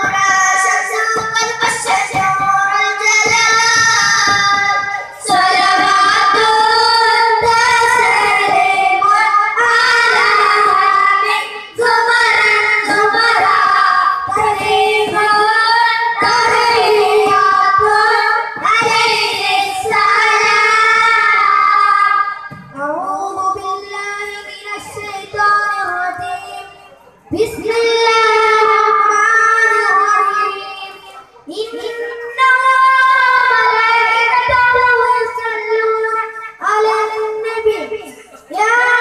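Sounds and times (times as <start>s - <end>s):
boys singing through pa: 0.0s - 39.0s.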